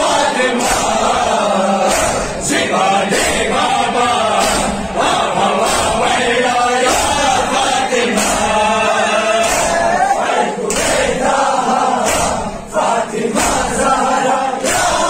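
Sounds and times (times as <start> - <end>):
crowd of men chanting: 0.0 - 15.0
rhythmic chest-beating slaps: 0.0 - 15.0.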